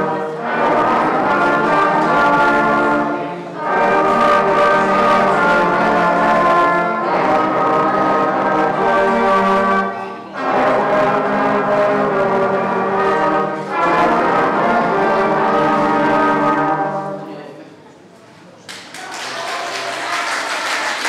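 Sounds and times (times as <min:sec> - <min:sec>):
brass band playing: 0:00.0 - 0:17.4.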